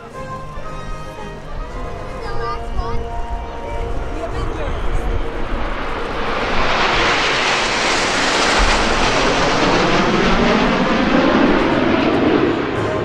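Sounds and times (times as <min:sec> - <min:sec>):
jet planes passing overhead: 0:00.0 - 0:13.0.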